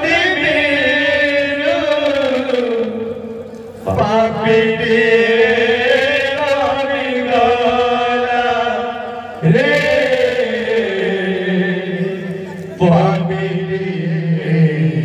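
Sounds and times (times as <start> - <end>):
men singing devotional chant: 0.0 - 3.0, 3.8 - 15.0.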